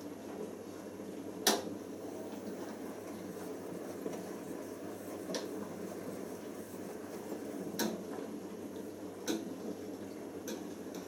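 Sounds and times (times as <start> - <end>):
washing machine drum churning: 1.6 - 11.0.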